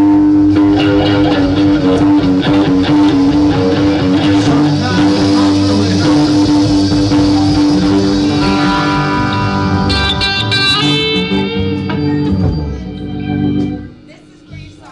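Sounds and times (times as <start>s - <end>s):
band playing led by guitar: 0.0s - 14.0s
bright high guitar notes: 0.0s - 14.1s.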